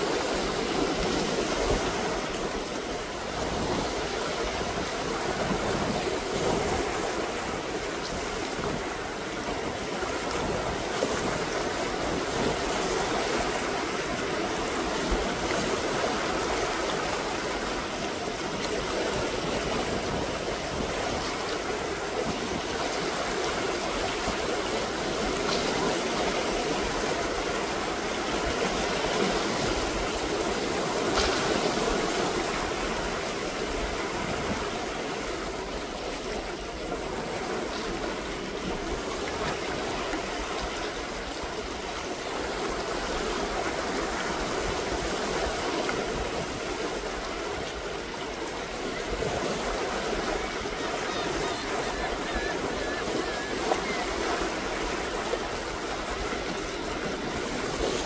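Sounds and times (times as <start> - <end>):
sea waves washing over boulders: 0.0 - 58.0.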